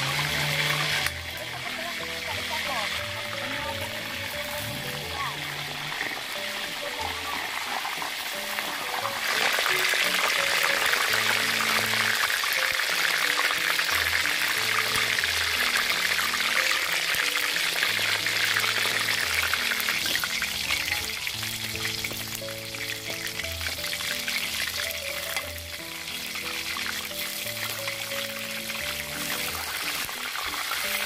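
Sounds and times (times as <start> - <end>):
chicken deep-frying in oil: 0.0 - 31.0.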